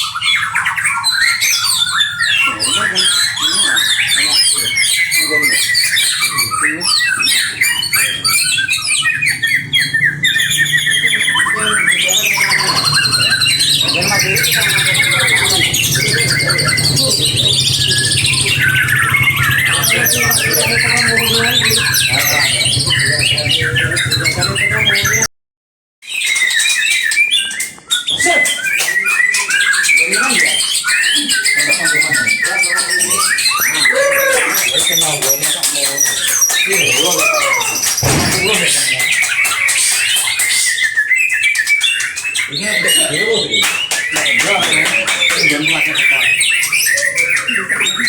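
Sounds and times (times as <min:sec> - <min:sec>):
songbirds singing: 0:00.0 - 0:25.3, 0:26.1 - 0:48.0.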